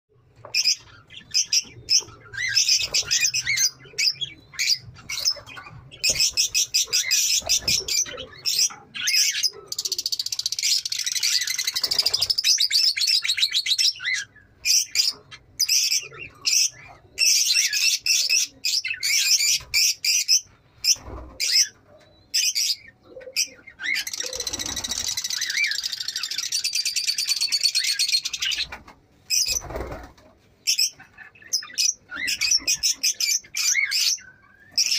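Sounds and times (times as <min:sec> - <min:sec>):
lovebirds chattering: 0:00.4 - 0:34.9.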